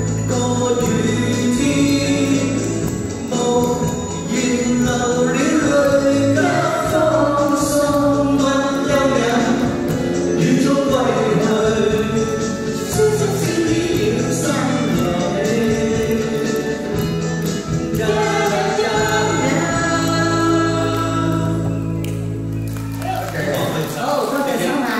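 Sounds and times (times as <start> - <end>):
people singing pop song: 0.0 - 22.0
recorded accompaniment: 0.0 - 24.9.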